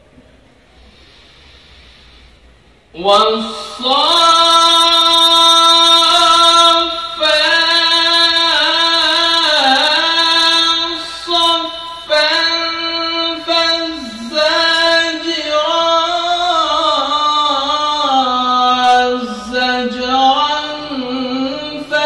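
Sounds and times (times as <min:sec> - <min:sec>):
man chanting melodically: 0:02.9 - 0:22.0.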